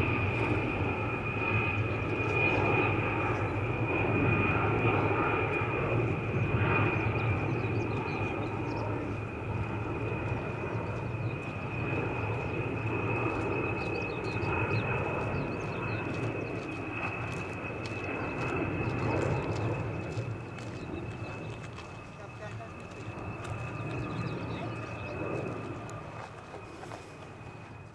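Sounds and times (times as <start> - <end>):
high-pitched engine whine: 0.0 - 27.9
jet engines droning: 0.0 - 27.9.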